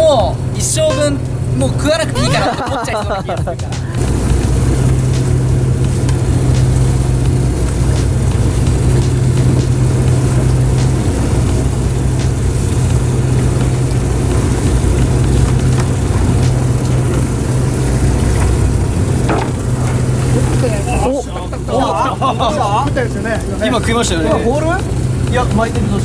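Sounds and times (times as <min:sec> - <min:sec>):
boat engine humming: 0:00.0 - 0:26.0
even hiss: 0:00.0 - 0:26.0.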